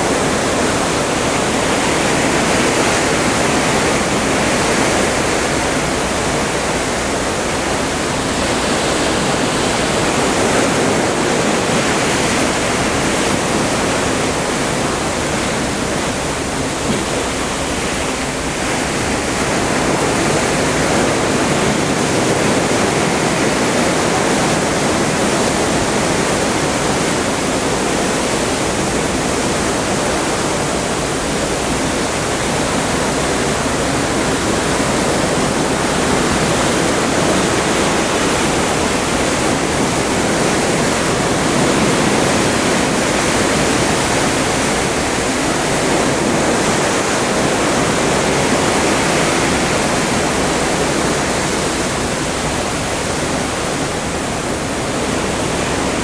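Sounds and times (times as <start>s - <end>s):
water rushing past ship: 0.0s - 56.0s.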